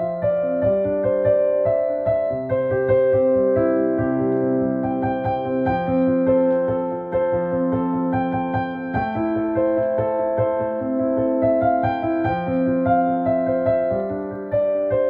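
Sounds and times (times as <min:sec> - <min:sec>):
upright piano playing chords: 0:00.0 - 0:15.0.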